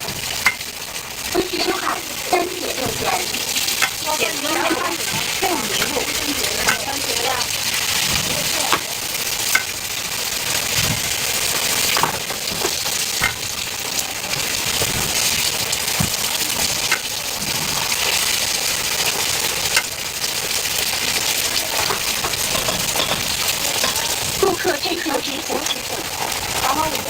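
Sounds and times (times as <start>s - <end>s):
food sizzling: 0.0s - 27.0s.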